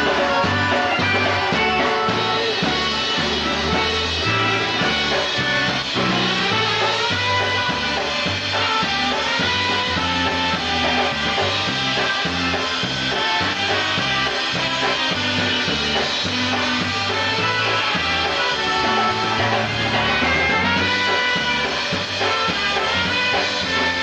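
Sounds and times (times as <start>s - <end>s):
bouncing bass: 0.0s - 24.0s
polka band playing: 0.0s - 24.0s.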